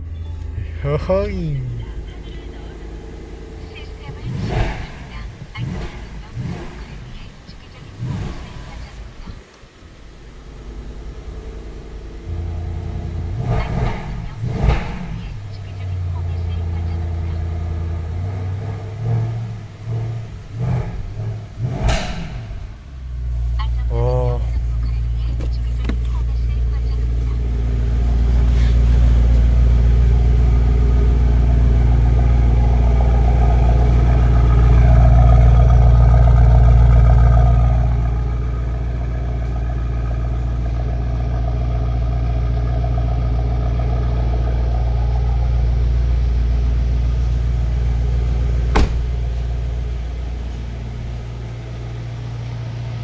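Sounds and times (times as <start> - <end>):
car exhaust drone: 0.0 - 53.0.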